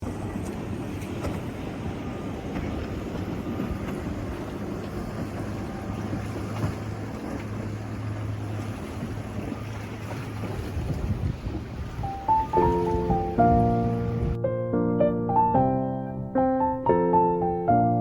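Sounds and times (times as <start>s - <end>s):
rush of wind and water: 0.0s - 14.4s
boat engine drone: 0.0s - 18.0s.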